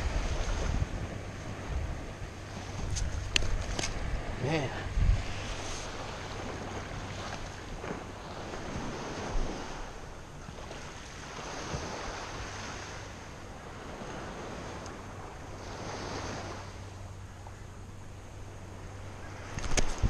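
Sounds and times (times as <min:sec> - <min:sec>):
surf washing on shore: 0:00.0 - 0:20.0
wind buffeting microphone: 0:00.0 - 0:20.0.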